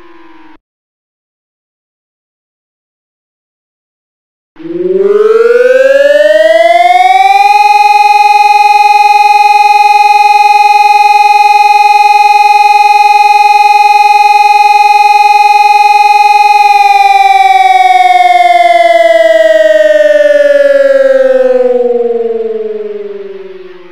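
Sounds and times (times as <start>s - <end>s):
electronic siren sounding: 4.6s - 23.9s.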